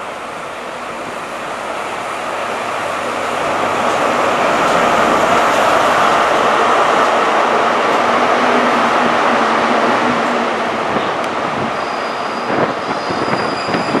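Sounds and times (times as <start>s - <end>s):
diesel train engine passing: 0.0s - 14.0s.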